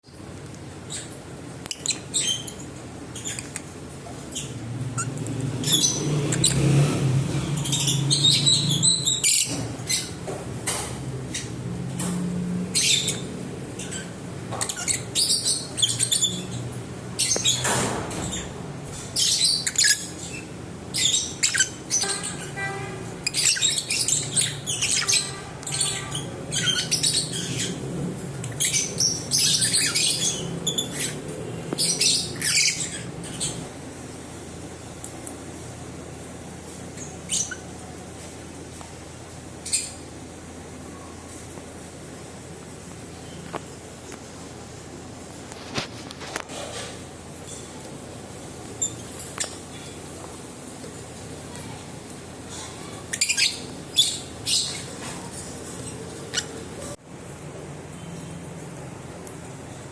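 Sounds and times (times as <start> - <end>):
lovebirds chirping and squawking: 0.2 - 38.2, 39.2 - 40.2, 45.6 - 57.0.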